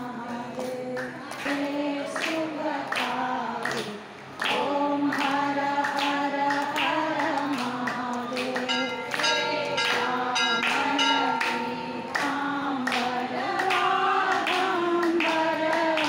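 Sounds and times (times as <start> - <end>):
women singing in unison: 0.0 - 16.0
hand claps: 0.3 - 16.0.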